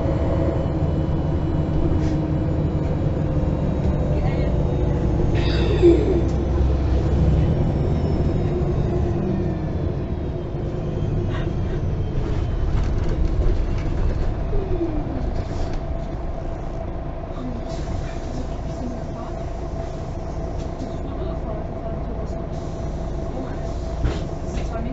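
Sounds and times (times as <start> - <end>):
bus diesel engine running: 0.0 - 24.9
road noise: 0.0 - 24.9.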